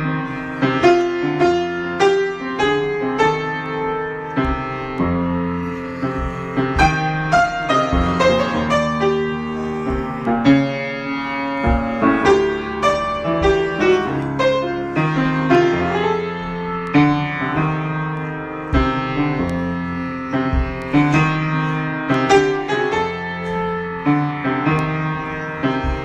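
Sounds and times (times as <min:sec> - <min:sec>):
solo piano improvisation: 0:00.0 - 0:26.0.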